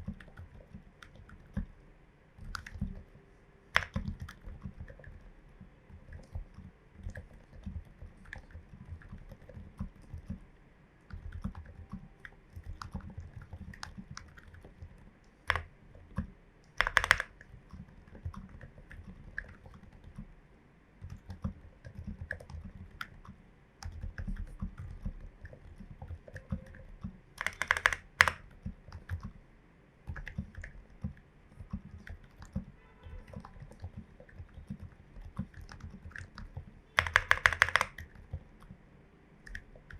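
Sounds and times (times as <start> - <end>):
mechanical keyboard typing: 0.0 - 1.8, 2.4 - 10.5, 11.1 - 20.3, 21.0 - 29.4, 30.1 - 38.8, 39.4 - 39.9.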